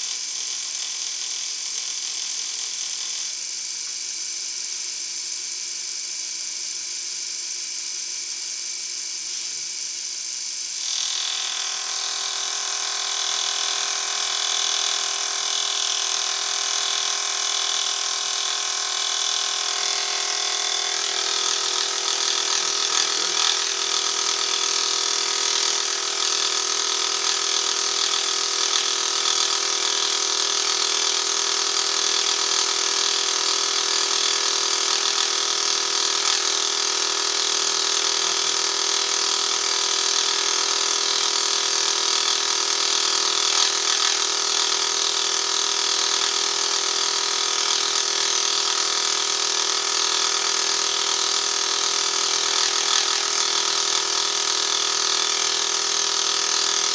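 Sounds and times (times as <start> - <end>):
milling machine cutting metal: 0.0 - 6.4, 7.0 - 56.9.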